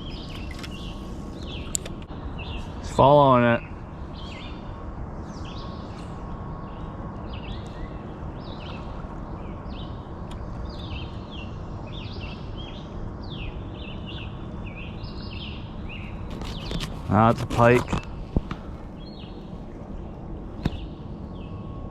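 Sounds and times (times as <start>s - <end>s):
small birds chirping: 0.0s - 2.8s, 3.6s - 18.4s.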